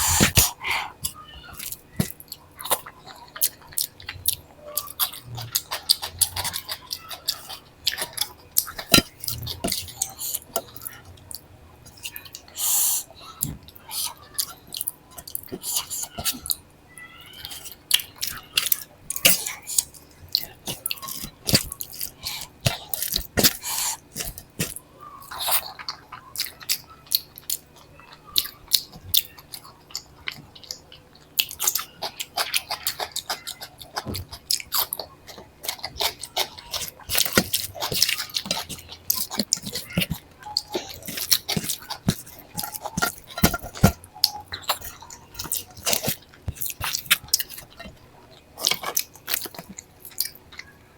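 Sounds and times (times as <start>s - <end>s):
person chewing with mouth clicks: 0.0s - 16.6s, 17.5s - 50.7s.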